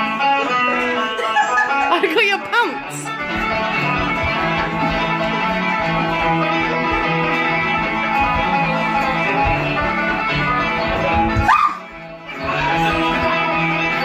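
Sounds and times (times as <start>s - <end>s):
ukuleles strummed: 0.2s - 14.0s.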